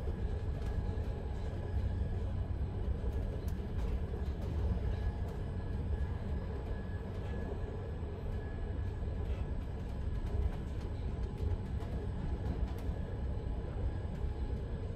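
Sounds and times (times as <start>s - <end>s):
train wheels rumbling on rail: 0.0s - 14.9s.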